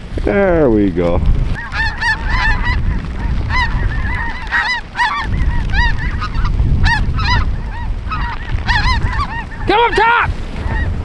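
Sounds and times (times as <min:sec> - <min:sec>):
geese honking: 0:01.4 - 0:11.0.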